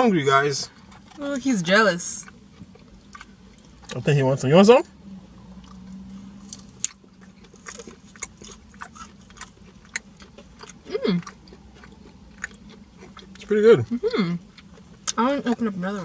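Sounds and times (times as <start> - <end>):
chewing and crunching food: 2.0 - 4.2, 4.8 - 16.0.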